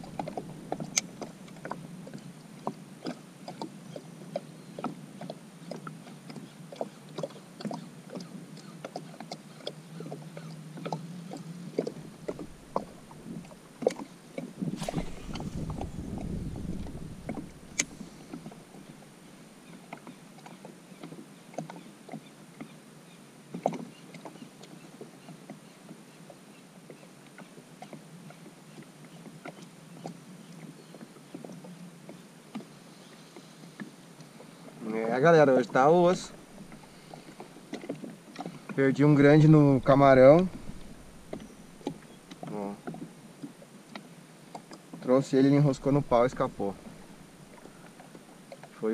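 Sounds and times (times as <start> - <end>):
small waves slapping a kayak hull: 0.0 - 48.9
water rush with low rumble: 0.0 - 48.9.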